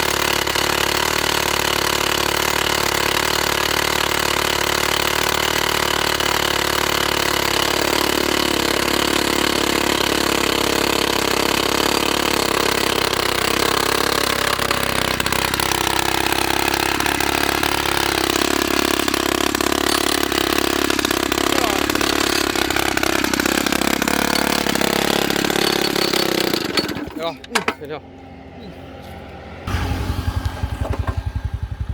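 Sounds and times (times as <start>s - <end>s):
drill hammering knocks: 0.0s - 28.0s
rock drill engine running: 0.0s - 31.9s.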